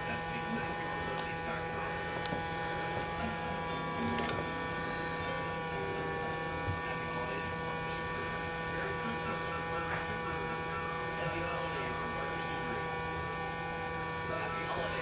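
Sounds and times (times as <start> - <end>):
robot vacuum motor whine: 0.0 - 15.0.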